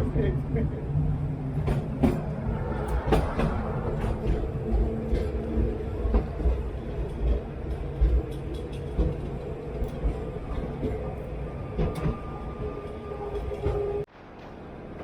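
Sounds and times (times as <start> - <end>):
tram rumble and hum: 0.0 - 15.0
wheels clicking on rails: 1.6 - 14.5.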